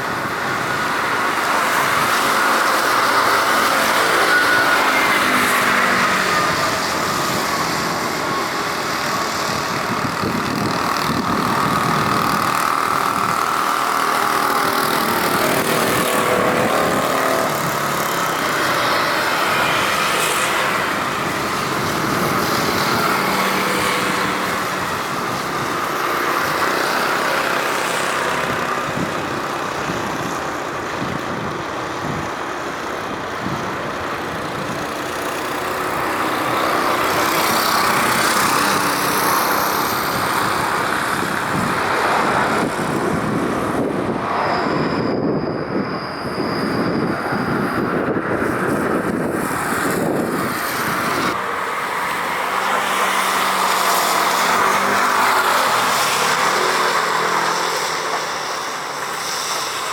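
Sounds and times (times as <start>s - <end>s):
jet engine rushing with whine: 0.0s - 59.9s.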